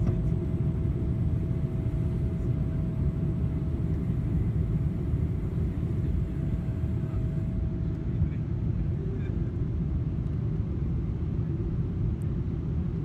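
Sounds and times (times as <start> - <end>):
airplane cabin rumble: 0.0 - 13.0
faint steady hum: 0.0 - 13.0.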